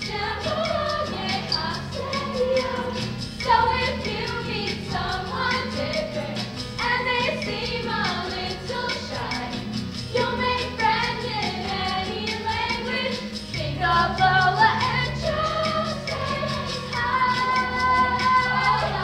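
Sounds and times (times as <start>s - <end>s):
upbeat music with steady beat: 0.0s - 19.0s
young voices singing in chorus: 0.0s - 19.0s.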